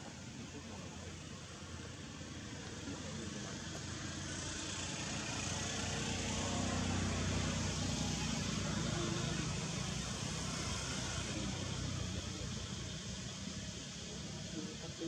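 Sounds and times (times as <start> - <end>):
motor vehicle humming: 0.0 - 15.0.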